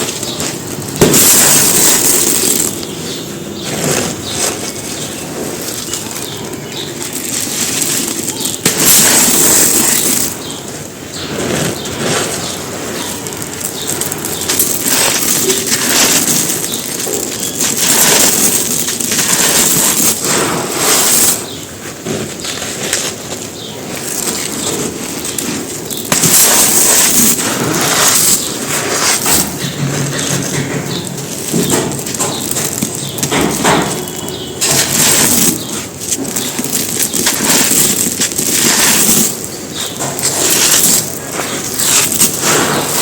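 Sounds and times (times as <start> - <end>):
cement stones crunching: 0.0 - 43.0.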